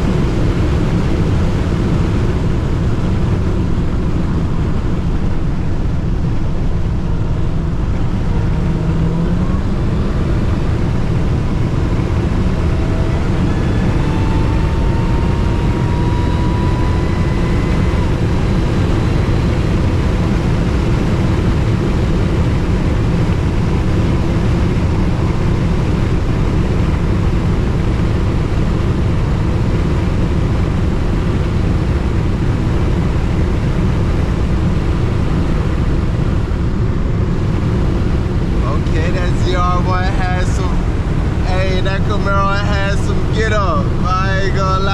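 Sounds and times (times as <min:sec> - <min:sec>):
car engine and road rumble: 0:00.0 - 0:44.9
faint rising whine: 0:00.0 - 0:44.9.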